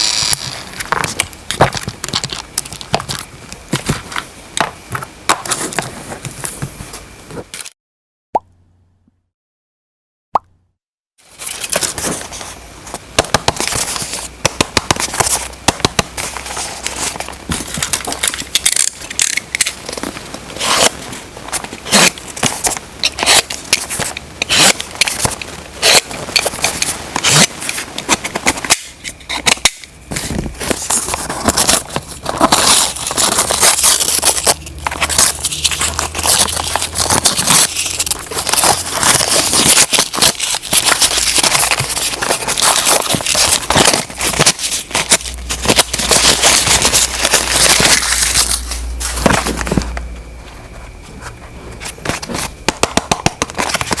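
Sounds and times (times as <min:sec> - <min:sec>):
faint steady hum: 0:00.0 - 0:07.7, 0:11.3 - 0:54.0
objects crackling and scraping: 0:00.0 - 0:07.7, 0:11.3 - 0:54.0.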